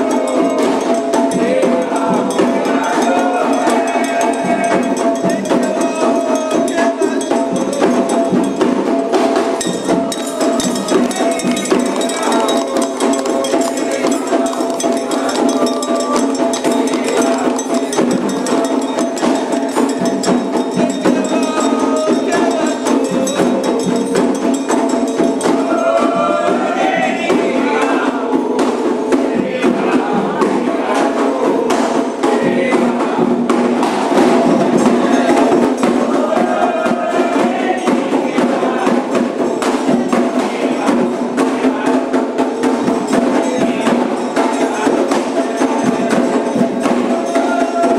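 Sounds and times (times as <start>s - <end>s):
fast hand percussion: 0.0s - 47.9s
voices singing: 0.0s - 47.9s.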